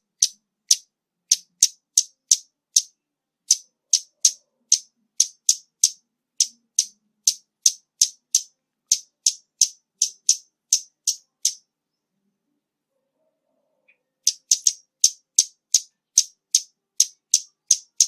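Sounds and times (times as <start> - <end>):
bird ticking calls: 0.0 - 11.7, 13.9 - 18.0.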